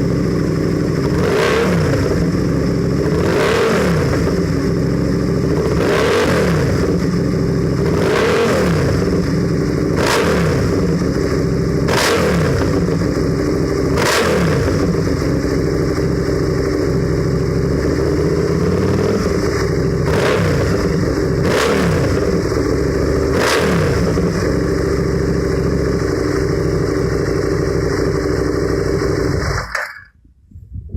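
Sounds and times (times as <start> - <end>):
motorcycle engine revving: 0.0 - 30.1.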